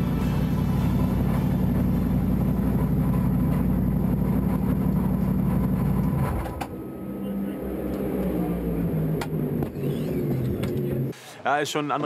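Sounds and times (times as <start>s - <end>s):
race car engine idling: 0.0s - 11.2s.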